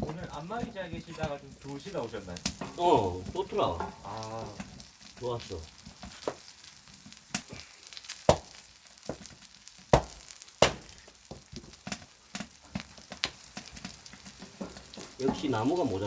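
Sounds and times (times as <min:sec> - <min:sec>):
crackling pops: 0:00.0 - 0:16.0
meat sizzling on hot stone: 0:00.0 - 0:16.0.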